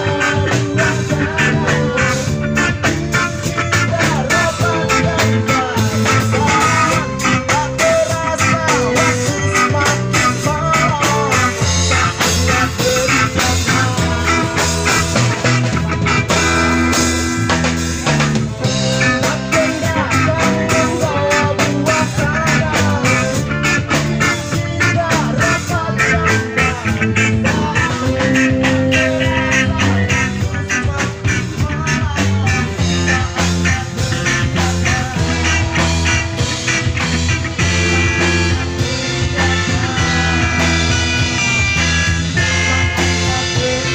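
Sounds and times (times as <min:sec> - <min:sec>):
person singing into a microphone: 0:00.0 - 0:16.5, 0:18.7 - 0:41.6, 0:42.4 - 0:43.9
live rock band playing: 0:00.0 - 0:43.9.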